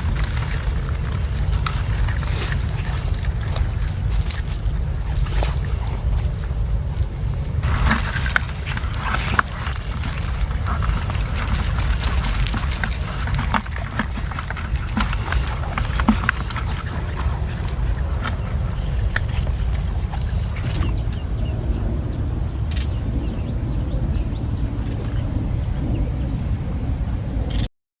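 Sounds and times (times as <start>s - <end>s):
bird chirping: 0.0s - 27.7s.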